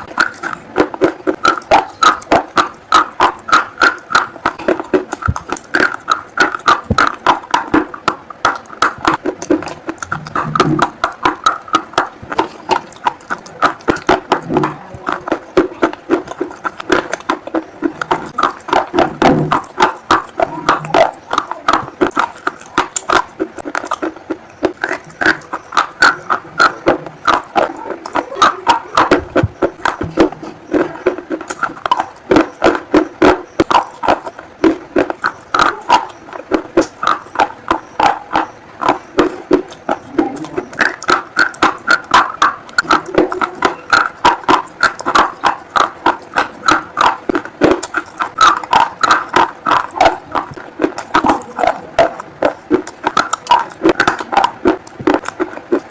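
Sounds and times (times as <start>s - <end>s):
crunching and chewing crisp food: 0.0s - 55.9s
wet mouth sounds: 0.0s - 55.9s.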